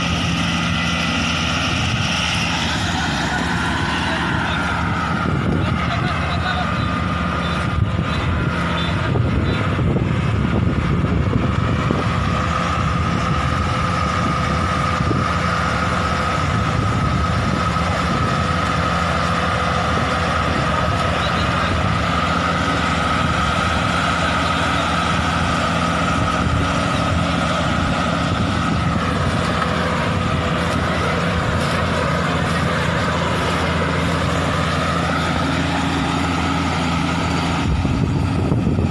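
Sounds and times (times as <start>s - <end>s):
combine harvester engine: 0.0s - 38.9s
high machinery whine: 0.0s - 38.9s.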